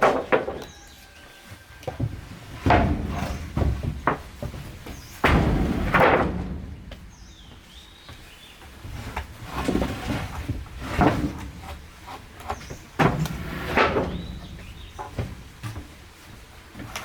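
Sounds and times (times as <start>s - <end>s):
heavy thuds and knocks: 1.9s - 16.1s.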